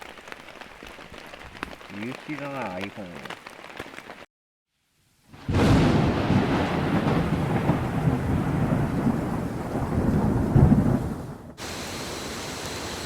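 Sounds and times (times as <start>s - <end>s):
heavy rain pouring: 0.0s - 4.3s, 5.4s - 13.0s.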